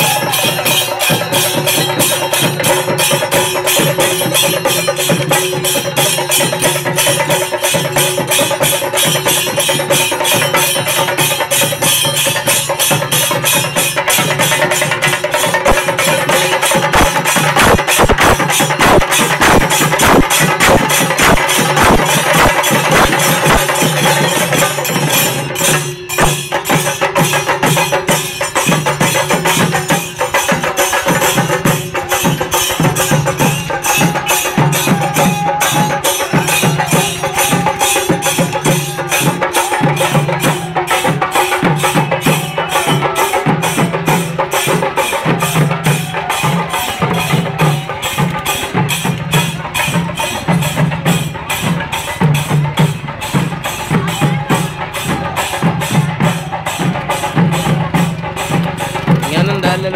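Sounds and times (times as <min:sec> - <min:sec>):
drums beaten with sticks: 0:00.0 - 0:59.9
hand cymbals: 0:00.0 - 0:59.9.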